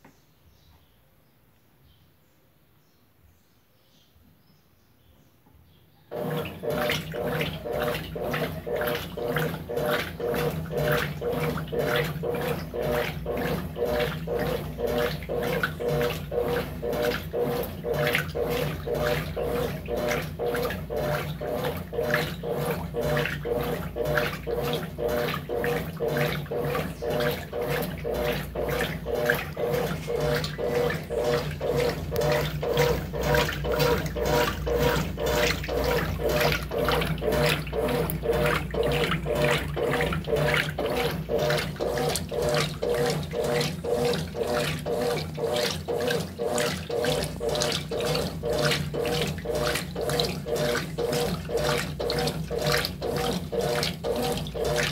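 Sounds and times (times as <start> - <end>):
washing machine motor hum: 6.1 - 54.9
washing machine water sloshing: 6.1 - 54.9.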